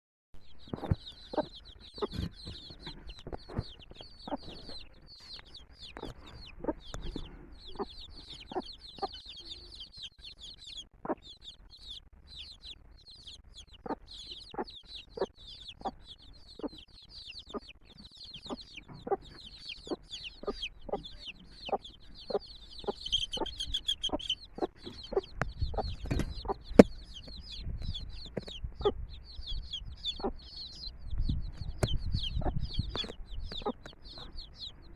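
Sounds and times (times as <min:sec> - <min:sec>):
chicks peeping: 0:00.5 - 0:34.9
hen clucking: 0:00.6 - 0:34.9.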